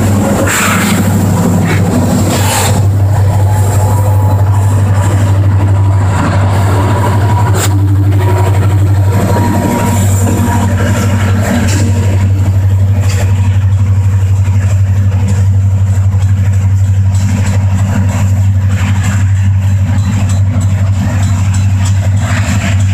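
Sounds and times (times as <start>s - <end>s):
diesel locomotive engines droning: 0.0s - 22.9s.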